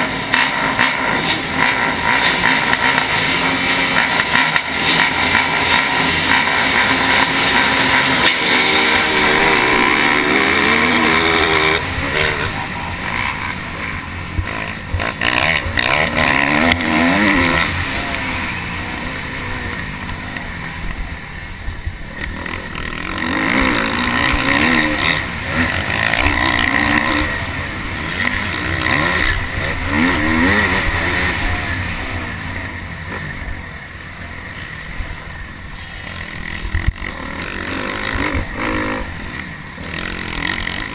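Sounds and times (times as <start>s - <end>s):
dirt bike engine revving: 0.0s - 40.9s
steady rushing noise: 0.0s - 40.9s.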